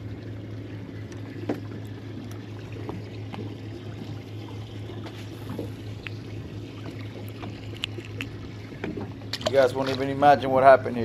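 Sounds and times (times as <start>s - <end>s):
steady low hum: 0.0s - 11.0s
water trickling and splashing: 0.0s - 11.0s.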